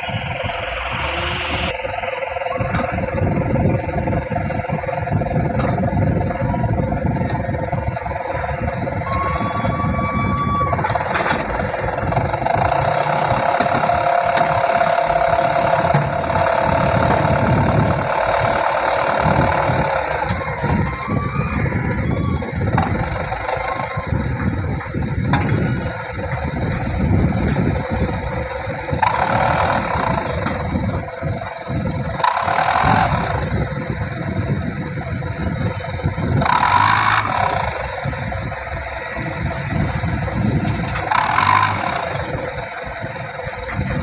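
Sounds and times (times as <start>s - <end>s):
diesel truck engine under load: 0.0s - 44.0s
steady whine: 0.0s - 44.0s.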